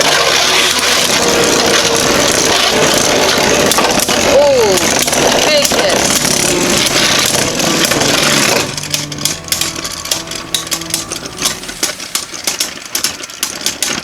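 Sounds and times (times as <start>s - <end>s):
spinning hum: 0.0s - 13.6s
spinning tops clicking and rattling: 0.0s - 14.0s.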